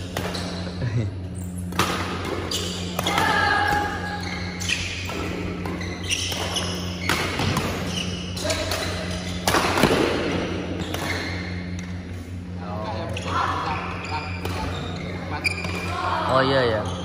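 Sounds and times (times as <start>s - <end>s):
steady low hum: 0.0s - 17.0s
shoes squeaking on court: 0.1s - 9.5s, 10.7s - 12.0s, 13.0s - 16.0s, 16.6s - 17.0s.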